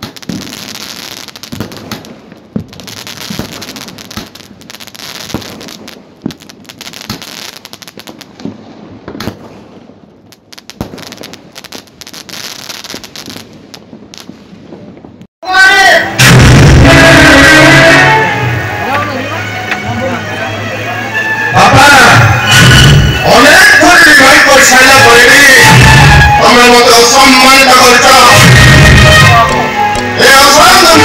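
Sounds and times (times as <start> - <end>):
fireworks crackling and bursting: 0.0 - 31.0.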